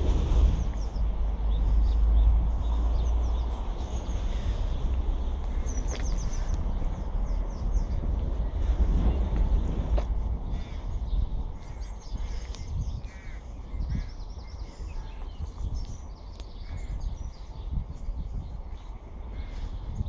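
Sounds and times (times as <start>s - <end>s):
birds calling: 0.0s - 20.0s
wind buffeting microphone: 0.0s - 20.0s.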